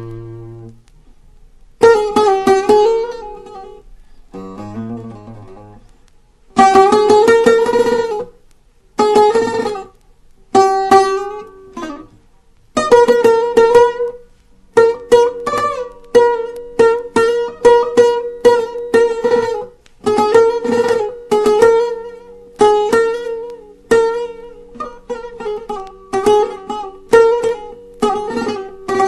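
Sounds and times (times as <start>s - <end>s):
plucked long-necked lute: 0.0s - 0.8s, 1.8s - 8.4s, 9.0s - 29.0s.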